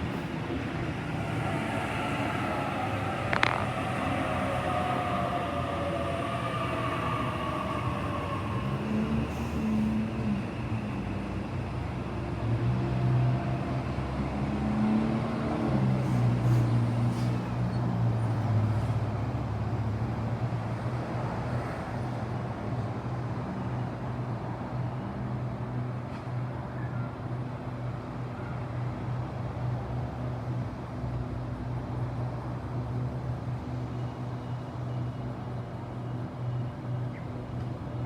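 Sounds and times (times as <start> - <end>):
train low mechanical hum: 0.0 - 38.0.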